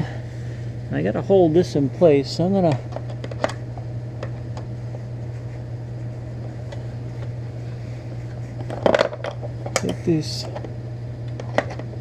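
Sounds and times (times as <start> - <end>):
heater humming: 0.0 - 12.0.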